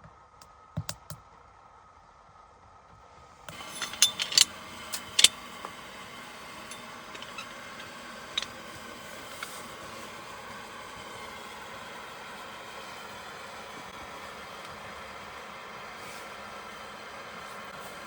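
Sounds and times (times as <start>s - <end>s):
wood fire burning in stove: 3.5s - 18.0s.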